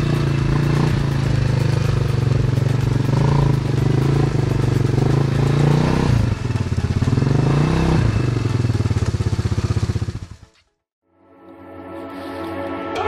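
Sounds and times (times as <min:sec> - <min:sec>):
quad bike engine idling and revving: 0:00.0 - 0:10.7.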